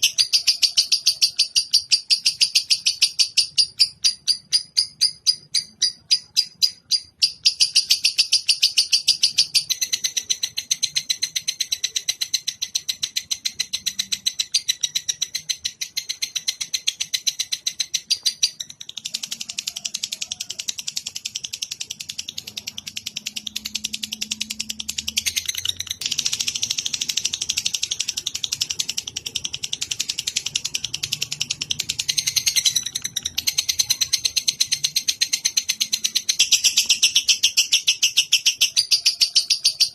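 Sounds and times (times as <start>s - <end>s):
songbird chirping rapidly: 0.0s - 39.9s.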